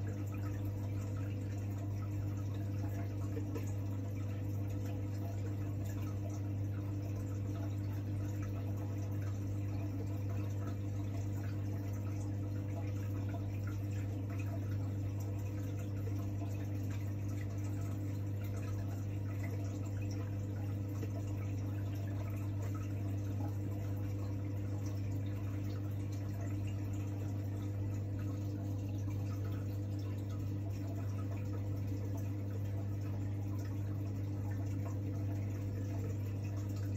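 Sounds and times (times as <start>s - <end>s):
aquarium pump hum: 0.0s - 36.9s
circulating water: 0.0s - 36.9s.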